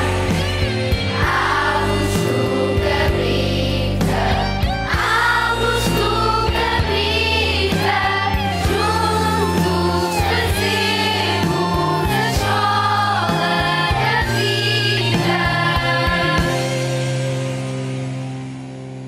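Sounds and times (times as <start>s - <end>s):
instrumental backing with bass: 0.0s - 19.0s
choir-like singing: 1.1s - 16.8s.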